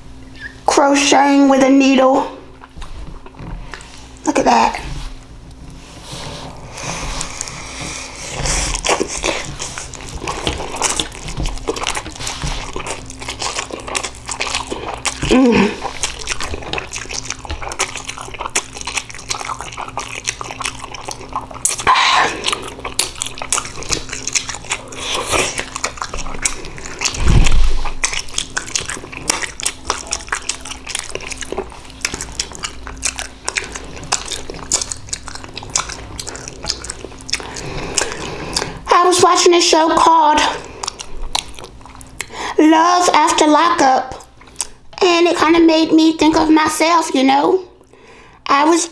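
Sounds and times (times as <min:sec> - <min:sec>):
wet chewing and smacking: 0:02.0 - 0:48.8.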